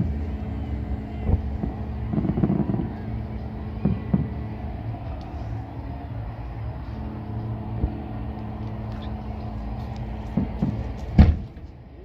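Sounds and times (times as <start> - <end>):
low mechanical hum: 0.0 - 12.0
murmur of voices: 0.0 - 12.0.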